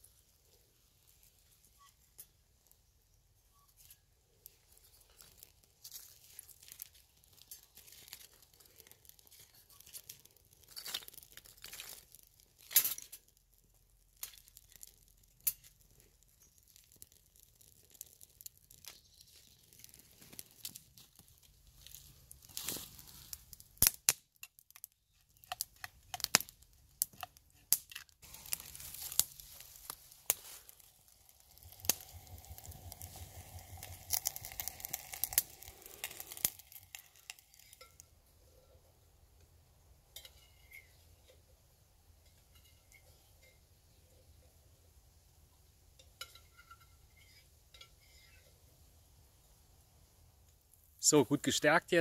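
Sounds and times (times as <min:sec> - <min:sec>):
kindling crackling in stove: 0:00.0 - 0:52.0.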